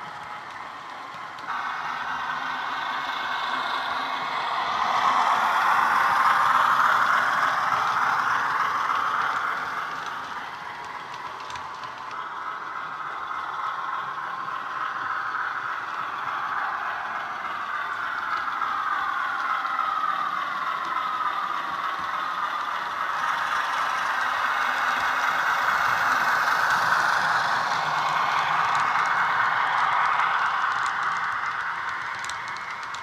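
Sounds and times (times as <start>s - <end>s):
diesel locomotive engine sound: 0.0s - 33.0s
model train wheels rattling on track: 0.0s - 33.0s.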